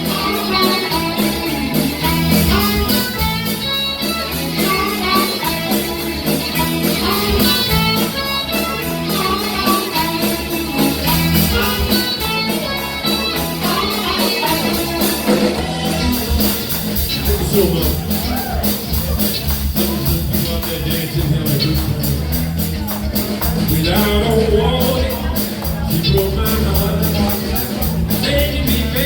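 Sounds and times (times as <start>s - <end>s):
drum beat: 0.0s - 29.0s
live band playing: 0.0s - 29.0s.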